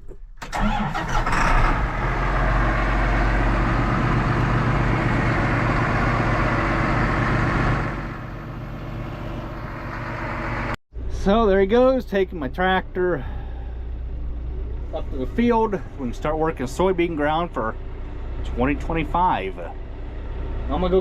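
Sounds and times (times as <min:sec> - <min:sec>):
tractor diesel engine running: 0:00.4 - 0:21.0.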